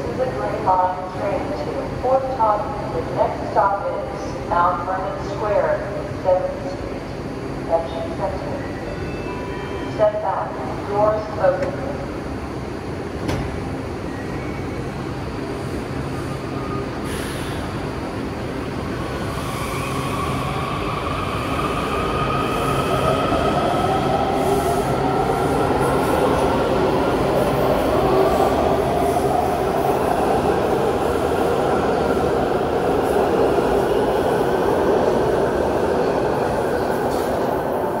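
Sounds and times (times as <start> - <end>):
metro train propulsion whine: 0.0 - 38.0.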